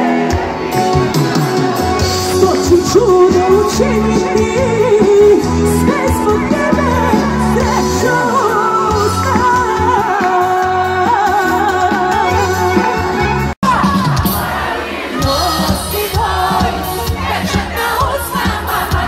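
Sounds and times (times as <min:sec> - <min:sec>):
live pop-folk band: 0:00.0 - 0:19.0
woman singing: 0:02.2 - 0:14.5, 0:15.2 - 0:19.0.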